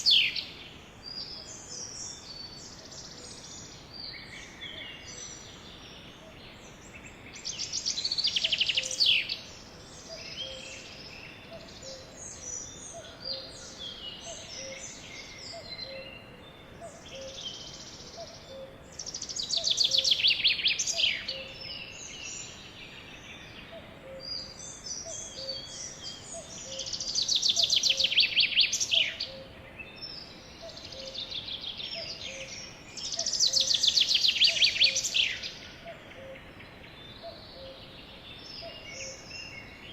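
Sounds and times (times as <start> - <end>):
sparrow singing trills: 0.0 - 0.5, 1.1 - 39.9.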